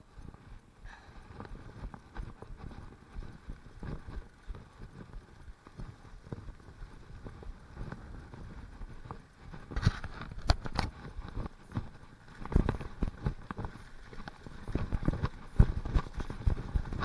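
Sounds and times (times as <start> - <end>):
bike knocking and rattling: 0.0 - 17.0.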